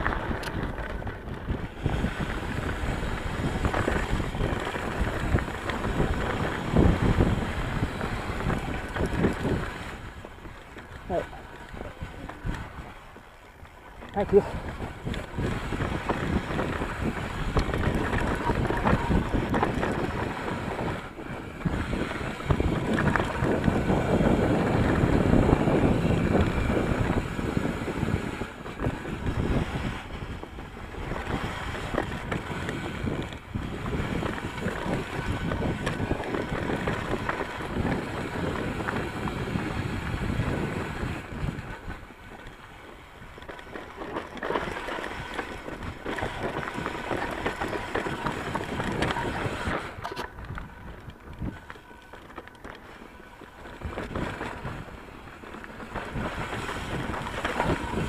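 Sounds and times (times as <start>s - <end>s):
bike rattling: 0.0s - 58.0s
wind buffeting microphone: 0.0s - 58.0s.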